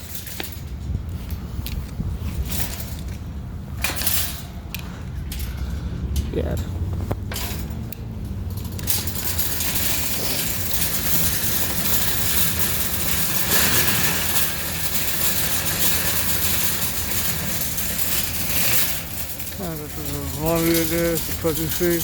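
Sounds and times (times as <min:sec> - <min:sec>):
shopping carts rattling on pavement: 0:00.0 - 0:22.0.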